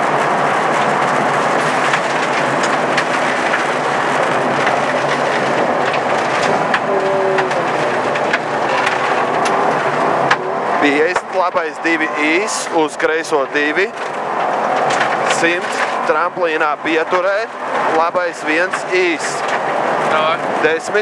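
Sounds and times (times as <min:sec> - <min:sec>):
gravel pinging against car underside: 0:00.0 - 0:21.0
rally car engine and road noise: 0:00.0 - 0:21.0.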